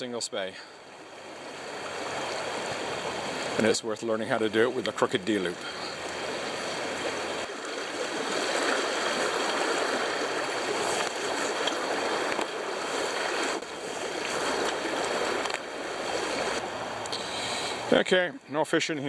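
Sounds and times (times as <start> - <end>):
river rushing over rocks: 1.0 - 17.9.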